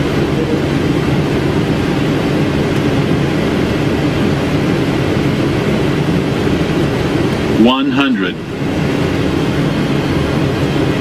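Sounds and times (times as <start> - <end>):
airflow rushing over aircraft: 0.0 - 11.0
low hum: 0.0 - 11.0.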